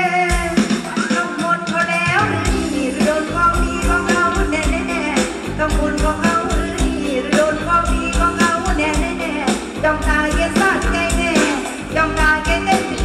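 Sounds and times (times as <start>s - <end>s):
steady drum beat: 0.0s - 13.0s
woman singing: 0.0s - 13.0s.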